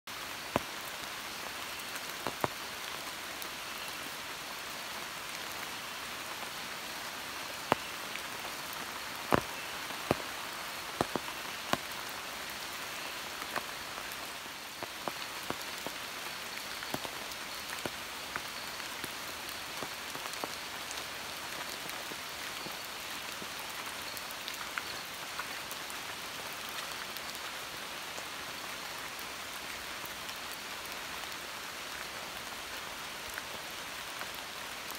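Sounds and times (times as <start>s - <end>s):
heavy rain in forest: 0.0s - 34.9s.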